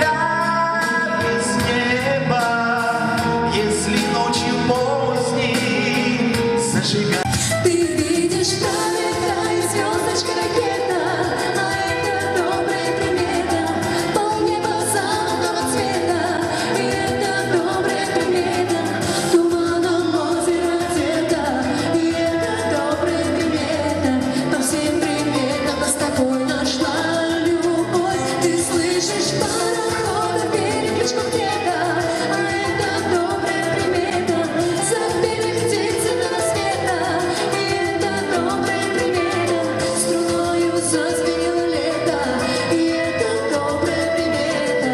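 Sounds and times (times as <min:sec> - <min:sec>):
live pop band playing: 0:00.0 - 0:44.9
person singing: 0:00.0 - 0:44.9.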